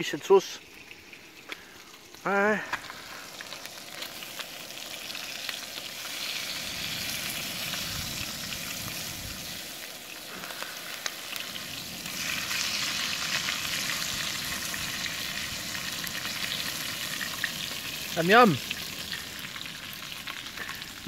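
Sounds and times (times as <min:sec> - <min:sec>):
bacon sizzling in a pan: 0:00.0 - 0:21.0.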